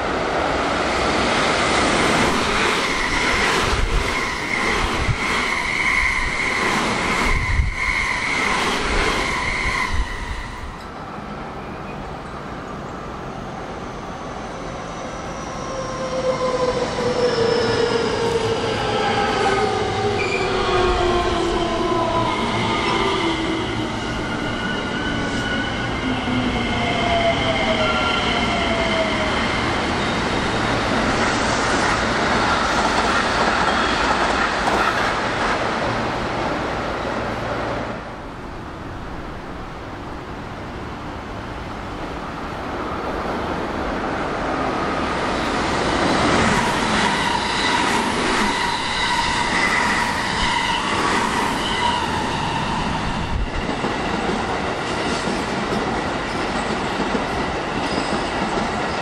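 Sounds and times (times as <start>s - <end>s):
electric trains passing: 0.0s - 59.0s.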